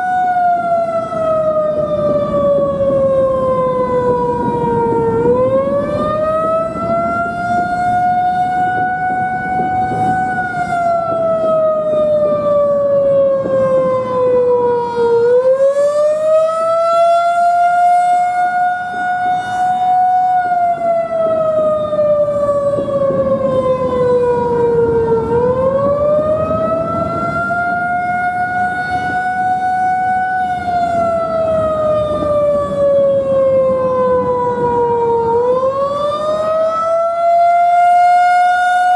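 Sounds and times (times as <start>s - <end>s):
rising and falling warning siren: 0.0s - 38.9s.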